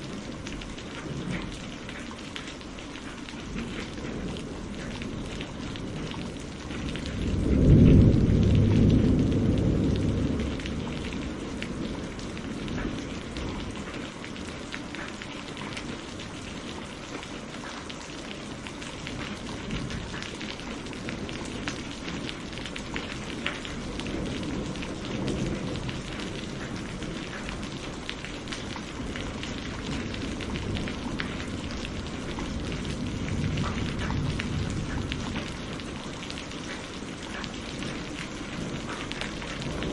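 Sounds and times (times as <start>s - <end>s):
steady rain: 0.0s - 39.9s
thunder rumbling: 3.5s - 14.2s, 18.3s - 39.9s.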